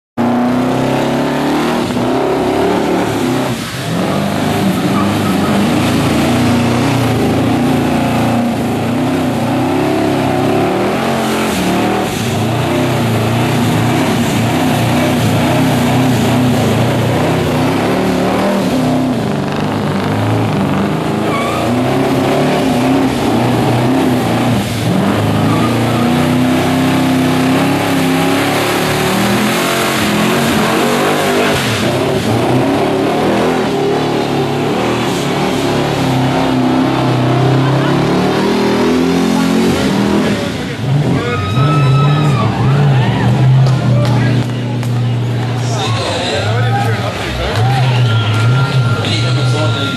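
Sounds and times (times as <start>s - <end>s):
car engine revving high: 0.2s - 49.9s.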